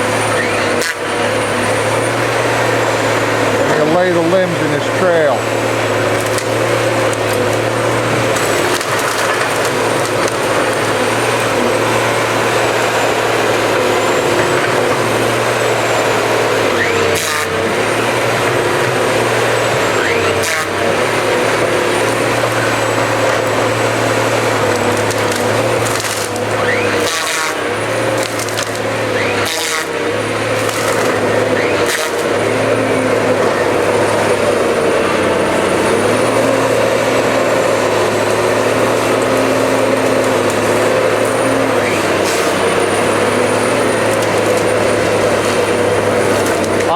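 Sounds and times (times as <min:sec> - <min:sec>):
harvester machine running: 0:00.0 - 0:46.9
limbs snapping and wood splintering: 0:00.7 - 0:01.2, 0:05.9 - 0:14.9, 0:15.8 - 0:33.9, 0:36.4 - 0:46.9.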